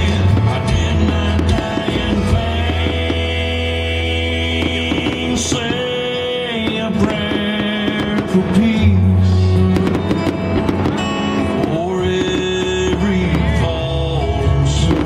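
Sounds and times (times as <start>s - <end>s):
fireworks crackling and popping: 0.0s - 13.9s, 14.8s - 15.0s
music playing: 0.0s - 15.0s.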